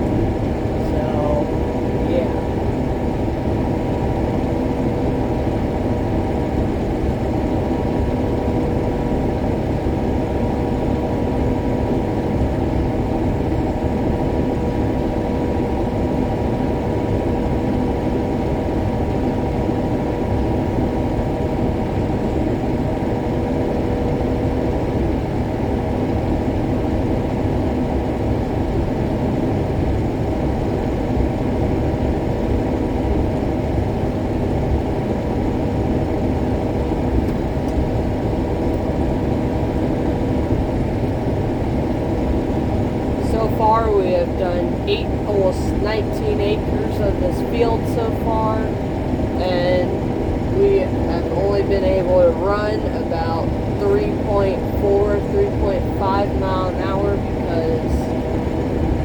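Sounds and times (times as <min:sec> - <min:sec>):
combine harvester engine drone: 0:00.0 - 0:59.0
faint steady whine: 0:00.0 - 0:59.0.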